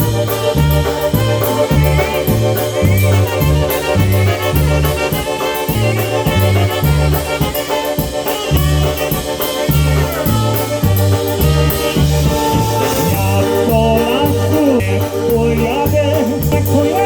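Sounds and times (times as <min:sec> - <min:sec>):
bass alternating two notes: 0:00.0 - 0:17.0
drum and cymbal beat: 0:00.0 - 0:17.0
polka band playing: 0:00.0 - 0:17.0.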